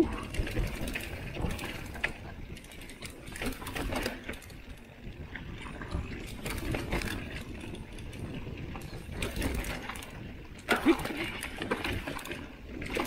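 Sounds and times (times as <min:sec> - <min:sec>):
bike rattling over bumps: 0:00.0 - 0:13.0.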